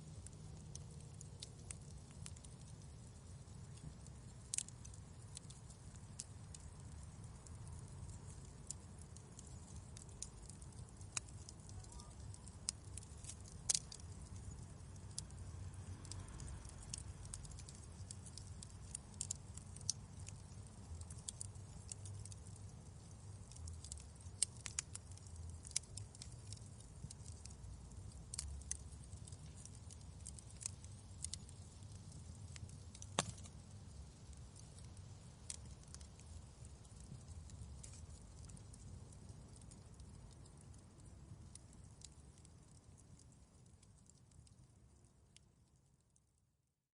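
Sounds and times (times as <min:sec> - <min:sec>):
fire low rumble: 0:00.0 - 0:46.1
wood fire crackling: 0:00.0 - 0:46.5.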